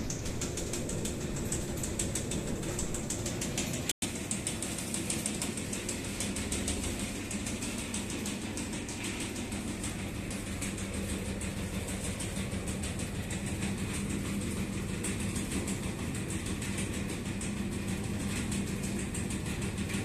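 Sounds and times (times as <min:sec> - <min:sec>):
shaking sieve rattle: 0:00.0 - 0:20.0
sieving machine motor hum: 0:00.0 - 0:20.0.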